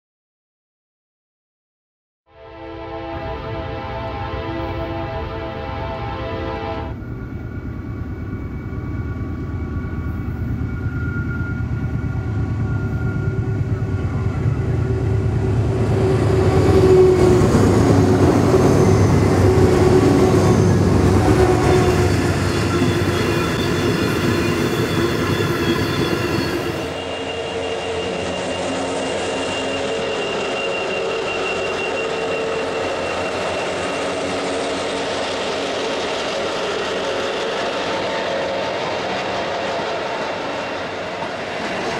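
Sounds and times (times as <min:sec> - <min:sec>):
diesel locomotive engines: 0:02.4 - 0:41.9
steel wheels rumbling on rail: 0:03.2 - 0:41.9
steady whining tones: 0:03.4 - 0:41.9.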